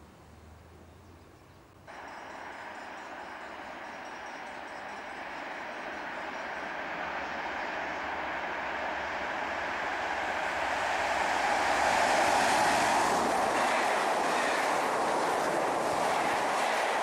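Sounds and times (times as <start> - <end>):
electric train passing: 1.9 - 17.0.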